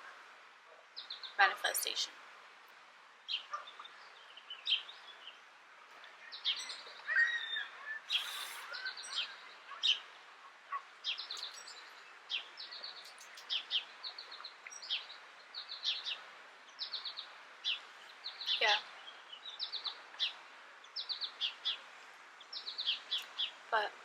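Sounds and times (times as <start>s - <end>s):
outdoor background hiss: 0.0s - 24.0s
small birds chirping: 0.7s - 24.0s.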